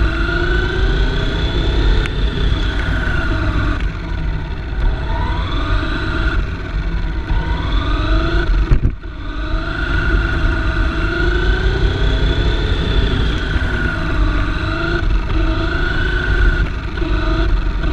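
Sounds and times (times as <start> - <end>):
chassis rolling rumble: 0.0 - 17.9
electric motor and gears whining: 0.0 - 17.9.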